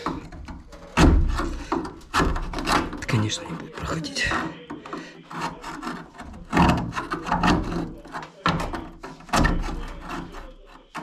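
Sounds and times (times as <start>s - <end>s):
screwdriver scraping debris: 0.0s - 11.0s.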